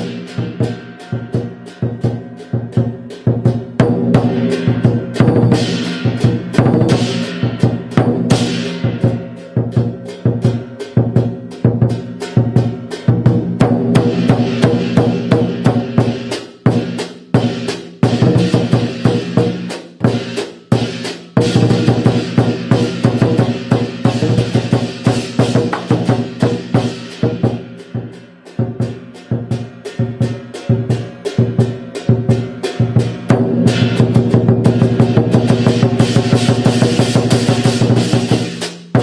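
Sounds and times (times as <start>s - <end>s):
crashing cymbals: 0.0s - 39.0s
drum beaten fast: 0.0s - 39.0s.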